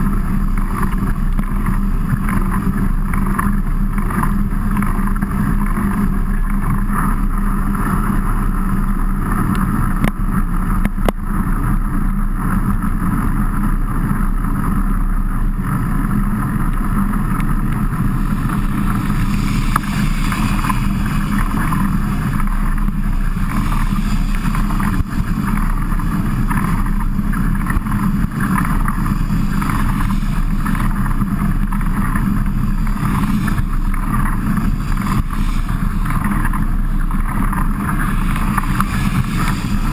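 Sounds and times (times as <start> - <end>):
bike rumbling in heavy rain: 0.0 - 39.9
wind on microphone: 0.0 - 39.9.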